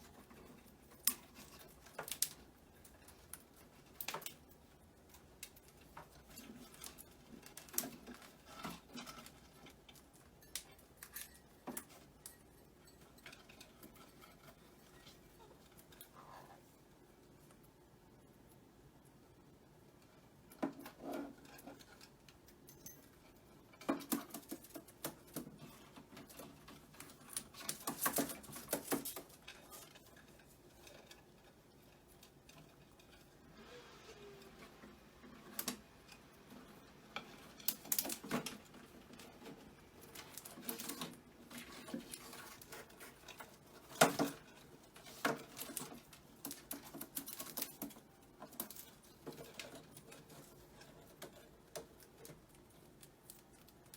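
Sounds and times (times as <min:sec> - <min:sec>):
parrot gnawing wooden toy: 0:00.0 - 0:17.8, 0:18.4 - 0:53.9.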